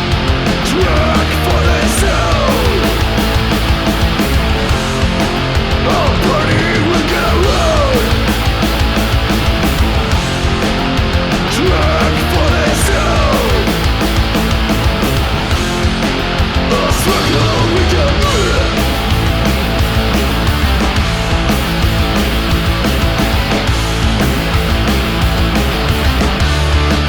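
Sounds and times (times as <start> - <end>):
punk rock band playing: 0.0 - 27.0.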